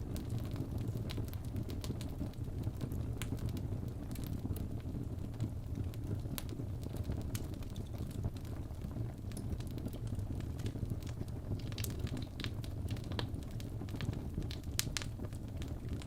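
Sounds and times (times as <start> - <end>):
fire crackles and pops: 0.0 - 16.0
fire rumbling in a fireplace: 0.0 - 16.0.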